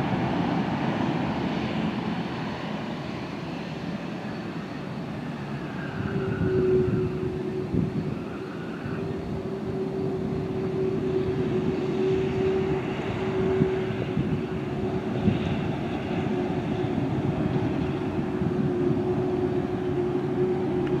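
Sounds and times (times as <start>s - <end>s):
jet engines rumbling: 0.0s - 21.0s
steady engine hum: 0.0s - 21.0s.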